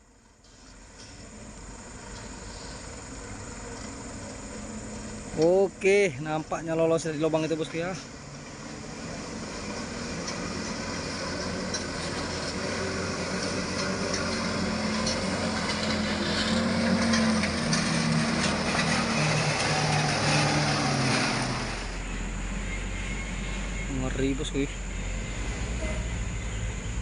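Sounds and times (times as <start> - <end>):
truck engine running under load: 0.0 - 27.0.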